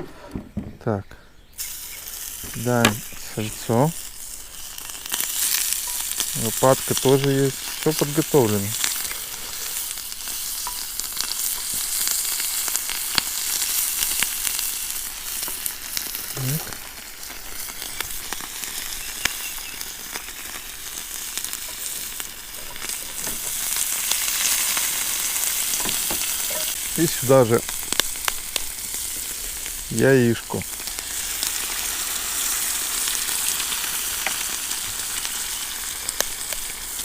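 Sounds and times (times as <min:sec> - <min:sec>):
pork fat sizzling in skillet: 0:01.5 - 0:37.0.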